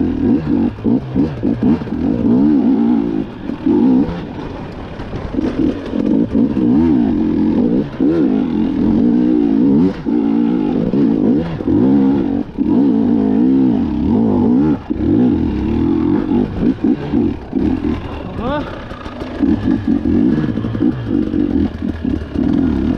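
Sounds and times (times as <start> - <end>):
two-stroke motorbike engine revving: 0.0 - 22.9.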